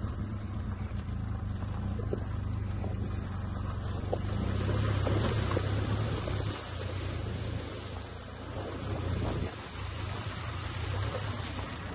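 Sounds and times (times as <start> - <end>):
motorcycle engine running: 0.0 - 11.9
water splashing from tyres: 0.0 - 11.9.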